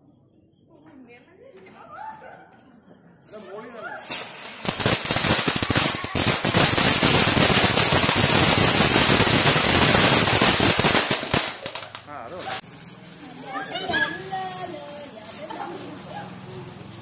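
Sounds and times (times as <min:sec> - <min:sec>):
firework fountain hissing and crackling: 0:03.2 - 0:17.0.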